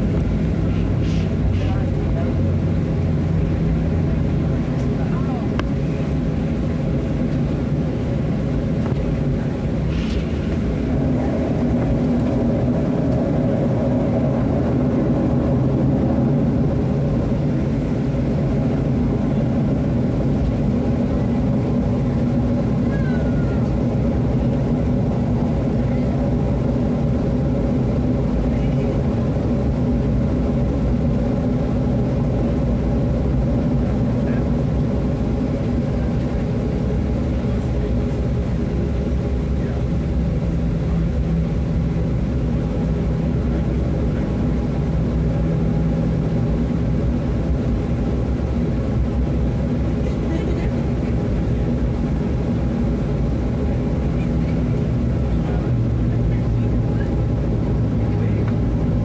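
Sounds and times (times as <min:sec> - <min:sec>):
aircraft cabin engine drone: 0:00.0 - 0:59.0.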